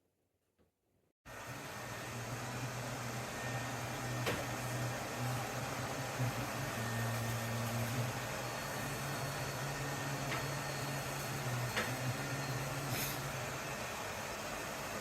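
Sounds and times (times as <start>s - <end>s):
robot vacuum running: 1.3s - 15.0s.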